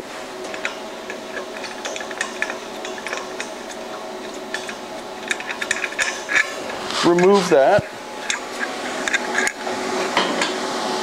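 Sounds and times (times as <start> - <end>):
metal threads ticking and rubbing: 0.5 - 10.2.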